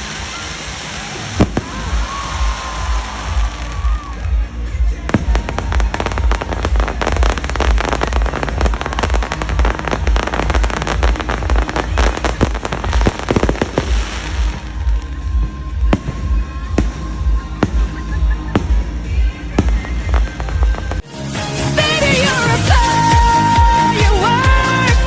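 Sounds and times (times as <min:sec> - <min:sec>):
fireworks banging and crackling: 0:00.0 - 0:21.0
music with pulsing bass beat: 0:01.4 - 0:25.0.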